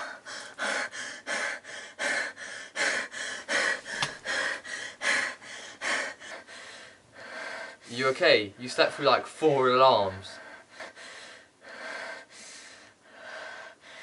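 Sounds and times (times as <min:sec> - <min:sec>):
woman panting and gasping: 0:00.0 - 0:07.9, 0:10.5 - 0:14.0.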